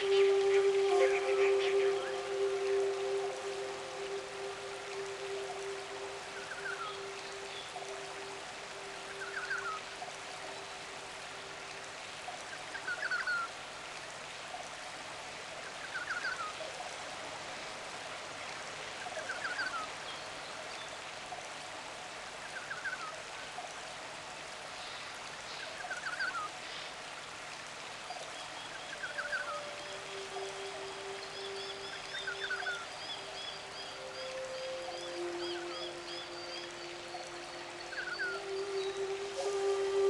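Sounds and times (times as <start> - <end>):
stream water flowing: 0.0 - 40.0.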